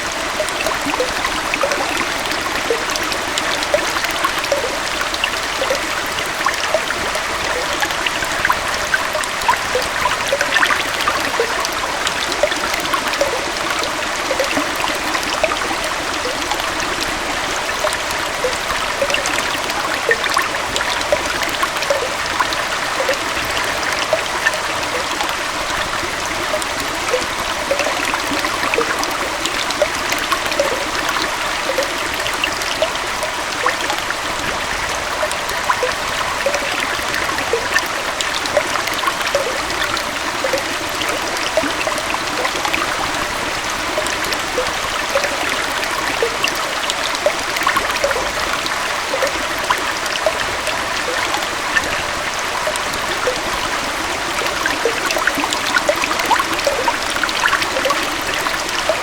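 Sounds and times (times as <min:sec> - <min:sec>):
waterfall and stream flowing: 0:00.0 - 0:59.0.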